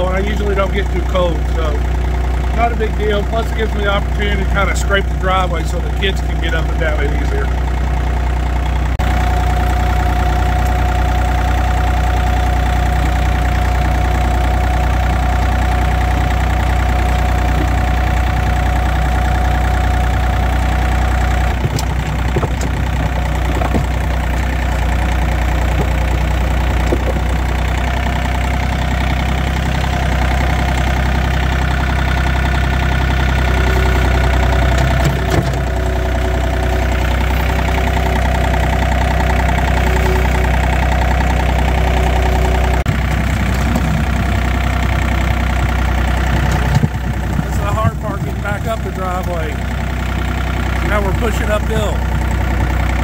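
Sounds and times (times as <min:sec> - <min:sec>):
tractor engine running under load: 0:00.0 - 0:53.0.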